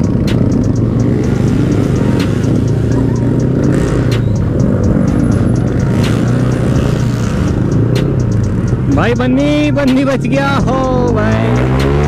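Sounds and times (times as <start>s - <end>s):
background music with steady beat: 0.0s - 12.0s
motorcycle engine at low speed: 0.0s - 12.0s.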